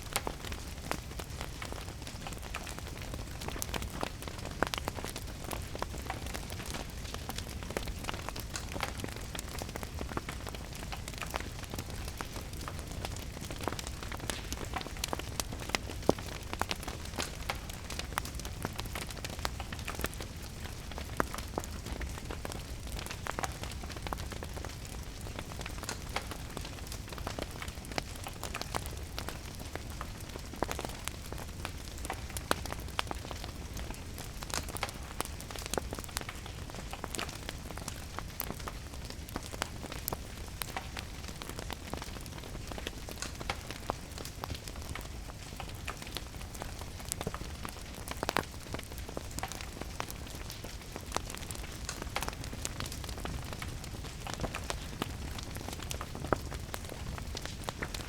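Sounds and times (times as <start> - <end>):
steady rain: 0.0 - 58.0
wood fire crackling and popping: 0.0 - 58.0.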